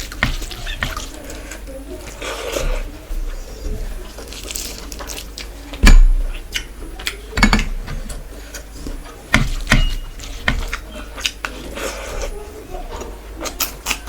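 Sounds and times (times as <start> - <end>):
chewing and smacking: 0.0 - 7.3, 8.0 - 14.0.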